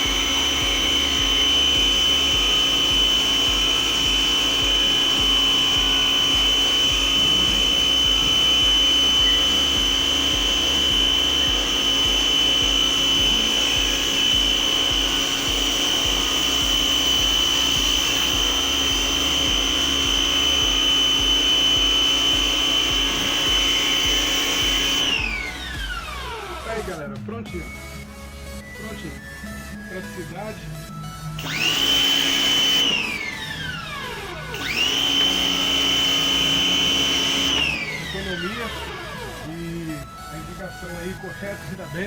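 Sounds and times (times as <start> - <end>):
machine hum: 0.0 - 42.0
pressure washer whine: 0.0 - 42.0.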